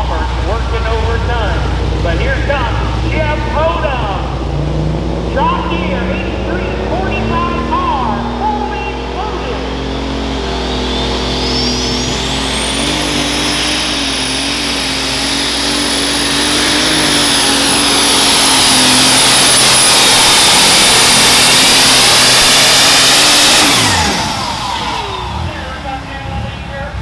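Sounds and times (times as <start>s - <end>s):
high turbo whine: 0.0s - 27.0s
tractor engine at full throttle: 0.0s - 27.0s.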